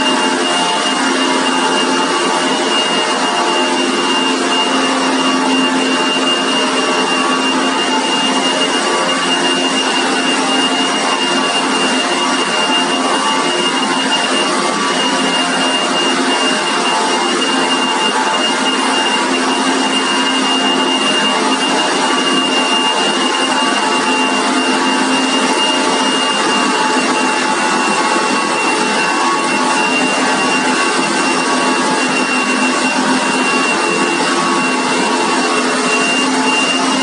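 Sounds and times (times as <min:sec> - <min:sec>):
high-pitched mechanical whine: 0:00.0 - 0:37.0
sweeper machine running: 0:00.0 - 0:37.0.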